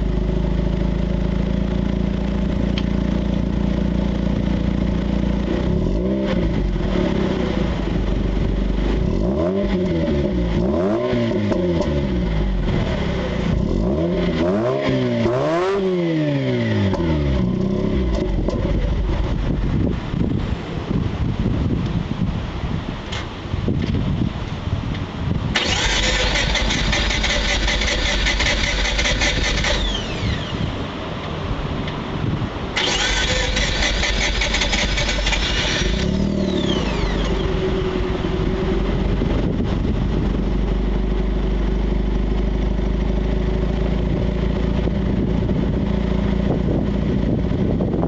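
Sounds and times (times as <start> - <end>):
rotary engine revving and idling: 0.0 - 20.4, 25.6 - 32.0, 32.7 - 48.0.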